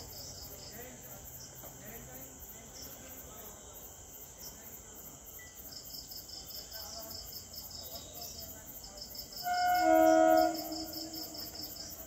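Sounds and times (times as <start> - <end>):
faster lower insect chirping: 0.0 - 3.0, 3.8 - 12.0
high-pitched insect chirping: 0.0 - 3.0, 4.1 - 12.0.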